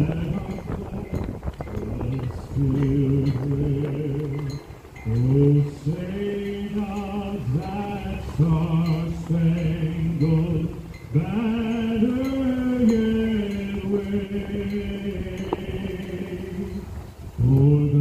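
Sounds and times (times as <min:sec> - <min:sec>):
man singing with vibrato: 0:00.0 - 0:18.0.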